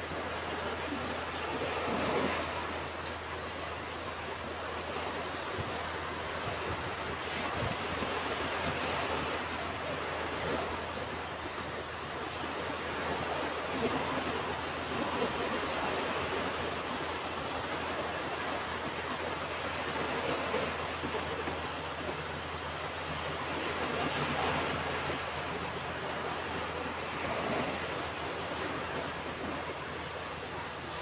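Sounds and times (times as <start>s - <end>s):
ocean waves washing on beach: 0.0s - 31.0s.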